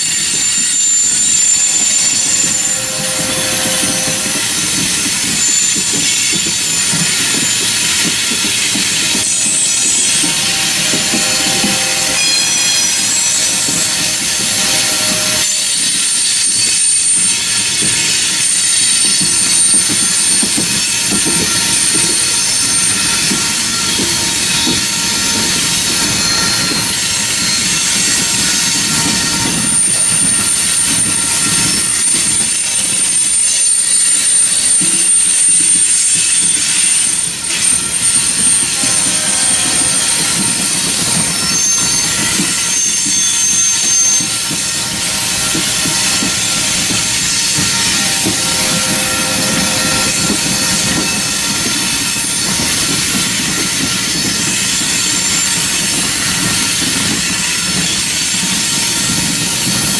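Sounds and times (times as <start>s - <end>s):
high wheel squeal: 0.0s - 59.9s
train wheels rumbling on rail: 0.0s - 59.9s.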